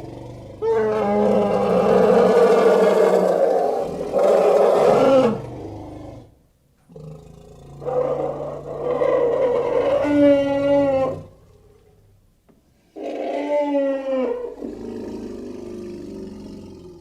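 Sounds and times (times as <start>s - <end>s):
low animal call: 0.0s - 6.3s, 6.9s - 12.1s, 12.9s - 17.0s.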